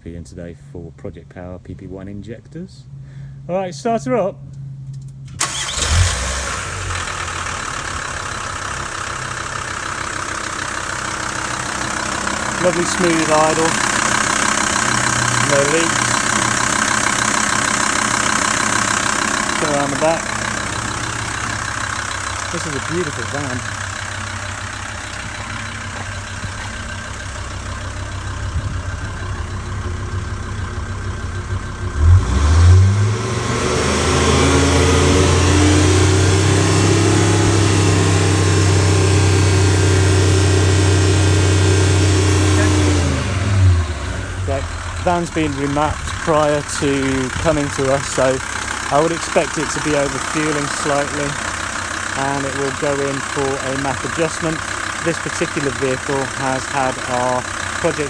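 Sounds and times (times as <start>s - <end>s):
diesel engine idling: 4.4s - 58.0s.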